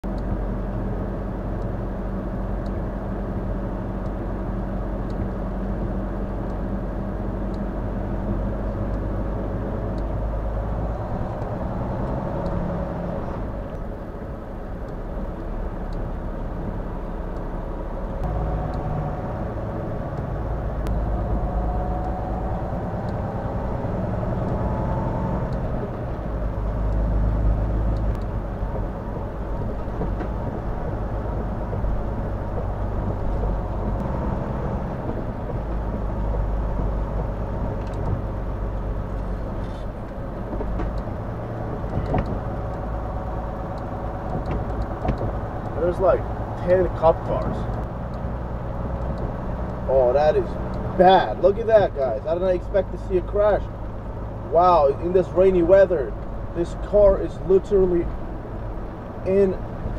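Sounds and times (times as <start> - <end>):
truck engine and tyre drone: 0.0 - 59.9.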